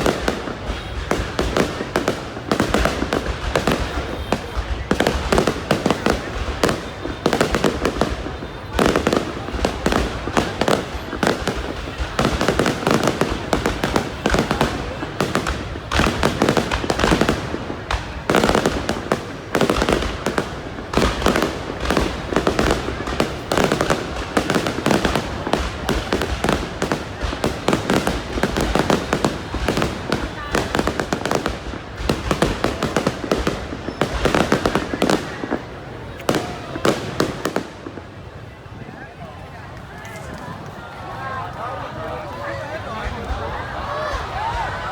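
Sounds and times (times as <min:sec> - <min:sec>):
fireworks bursting and crackling: 0:00.0 - 0:44.9.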